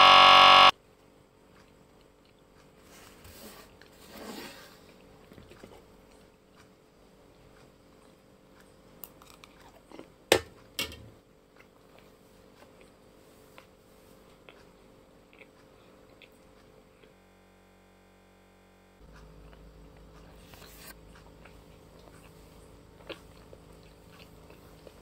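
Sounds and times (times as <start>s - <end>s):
faint chewing: 1.0s - 10.8s, 11.4s - 17.2s, 19.0s - 25.0s.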